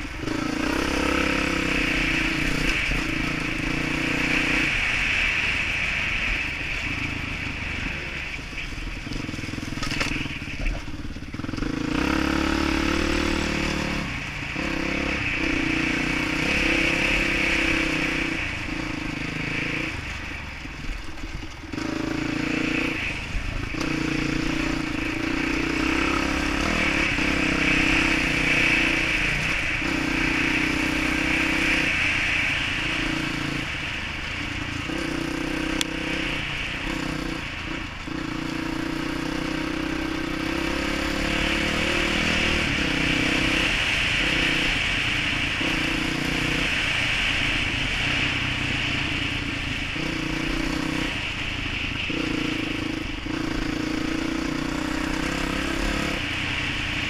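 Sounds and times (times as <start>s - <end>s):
dirt bike engine revving: 0.0s - 20.3s, 21.7s - 57.0s.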